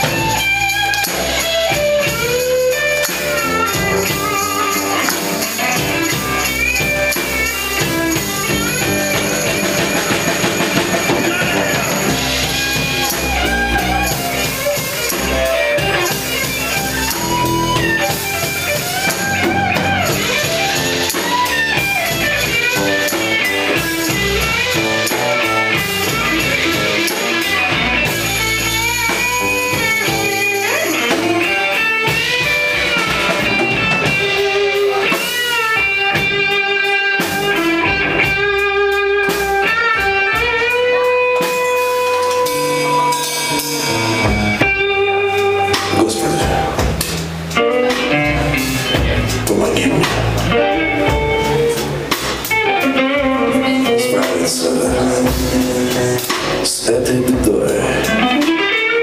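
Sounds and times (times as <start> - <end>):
electric guitar bending notes: 0.0 - 59.0
rock blues band playing: 0.0 - 59.0.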